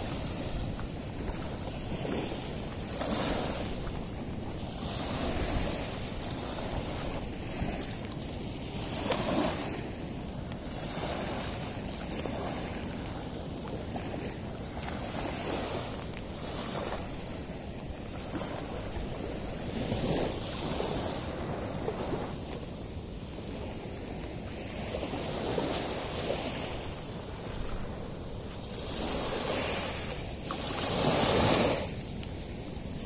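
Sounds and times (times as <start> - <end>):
small waves on sandy beach: 0.0 - 33.0
wind buffeting microphone: 0.0 - 33.0.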